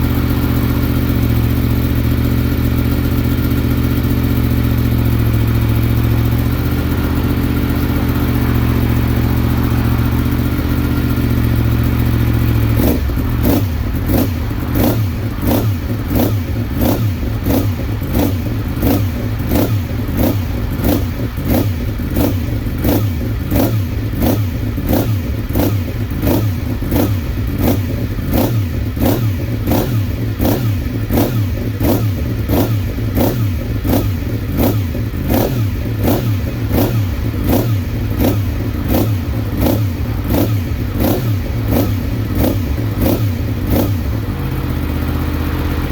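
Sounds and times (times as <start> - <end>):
motorcycle engine idling: 0.0 - 45.9.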